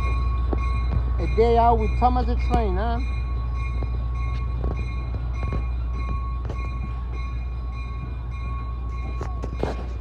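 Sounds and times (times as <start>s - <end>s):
train coaches rumbling: 0.0s - 10.0s.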